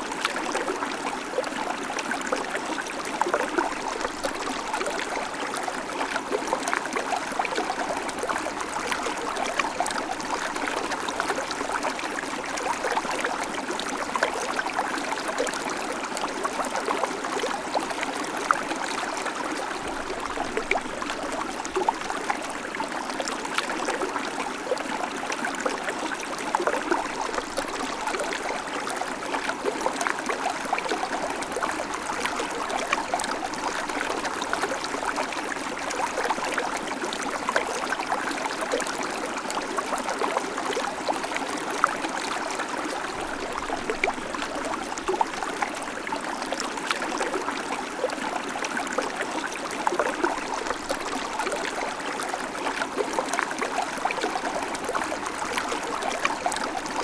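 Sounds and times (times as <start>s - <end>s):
creek water running over stones: 0.0s - 57.0s.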